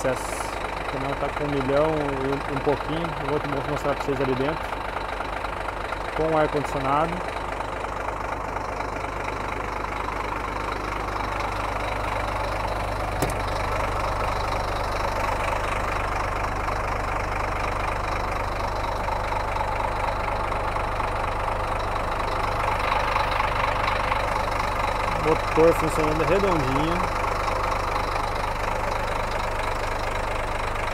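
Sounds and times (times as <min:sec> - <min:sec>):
diesel truck idling: 0:00.0 - 0:30.9.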